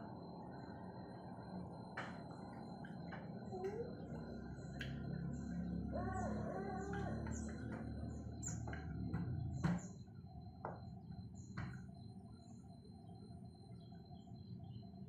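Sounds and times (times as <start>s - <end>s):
small birds chirping: 2.7s - 15.0s.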